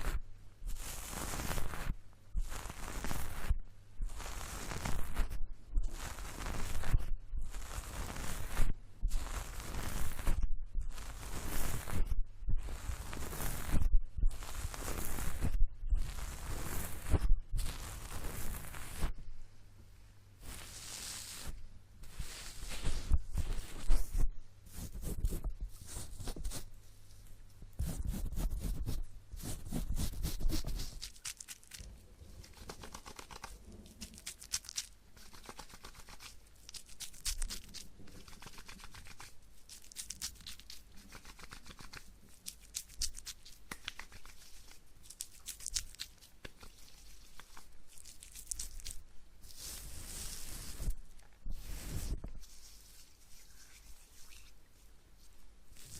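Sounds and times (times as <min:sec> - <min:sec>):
scratchy crackling and rustling: 0:00.0 - 0:19.2, 0:20.4 - 0:55.9.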